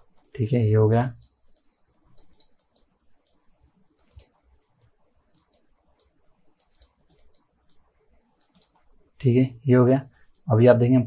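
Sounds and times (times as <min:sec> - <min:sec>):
mouse and keyboard clicking: 0:00.0 - 0:09.6.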